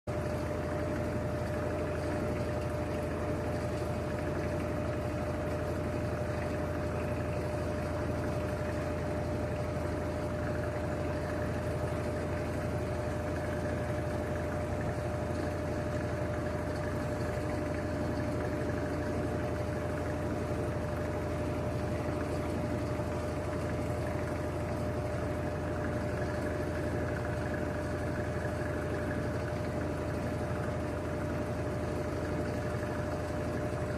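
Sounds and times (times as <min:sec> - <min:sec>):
washing machine spinning: 0:00.1 - 0:33.9.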